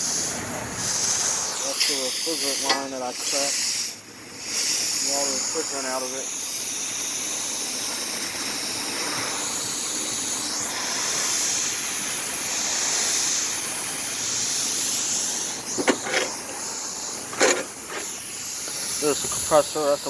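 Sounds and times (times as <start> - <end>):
refrigerant hissing from a pipe: 0.0 - 20.0.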